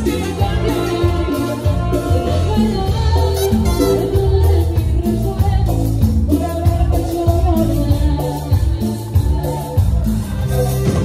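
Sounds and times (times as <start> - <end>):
live band playing latin dance music: 0.0 - 11.0
prominent bass line: 0.0 - 11.0.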